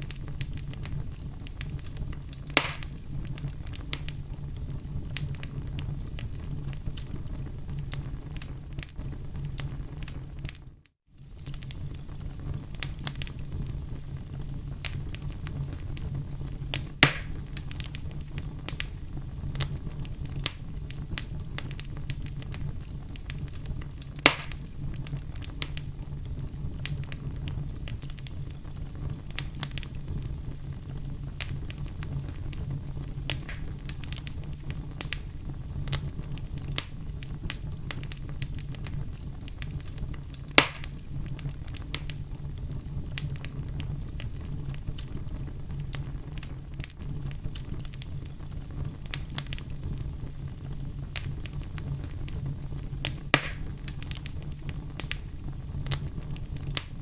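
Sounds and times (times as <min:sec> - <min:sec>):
loud fire pops: 0:00.0 - 0:57.0
low fire rumble: 0:00.0 - 0:57.0
wood fire crackling: 0:00.0 - 0:57.0.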